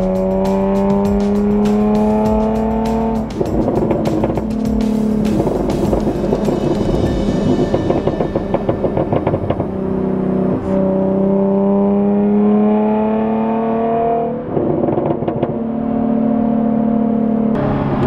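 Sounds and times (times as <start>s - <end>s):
car exhaust droning and crackling: 0.0s - 18.0s.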